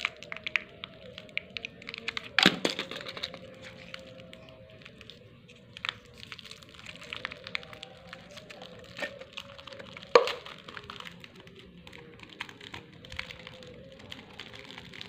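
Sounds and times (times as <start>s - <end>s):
plastic snack packet crinkling: 0.0s - 15.0s
sharp crack: 0.0s - 15.0s.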